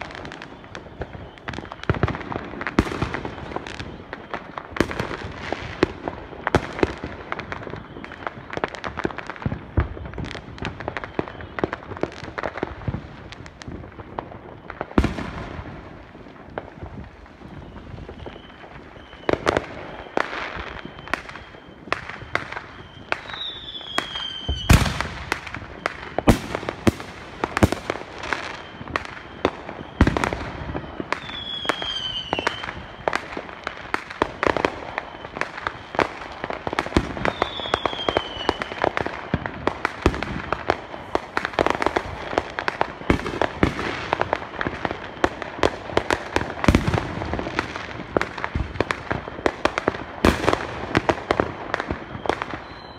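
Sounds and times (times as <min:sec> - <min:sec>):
falling firework whistles: 0:00.0 - 0:52.9
fireworks bangs and pops: 0:00.0 - 0:52.9.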